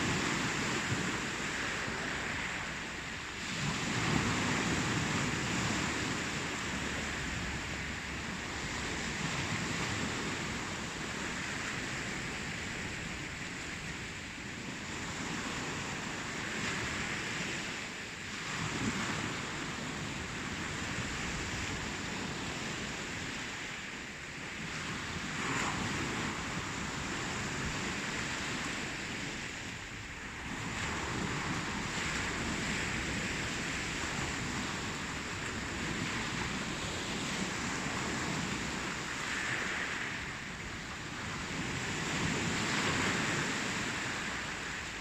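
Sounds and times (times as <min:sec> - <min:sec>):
ocean waves breaking: 0:00.0 - 0:45.0.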